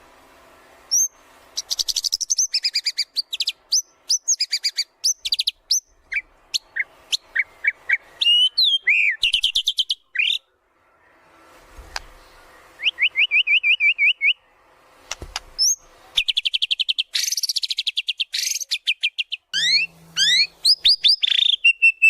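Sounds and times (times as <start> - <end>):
songbird singing: 0.9 - 11.2, 11.9 - 14.6, 15.6 - 22.0.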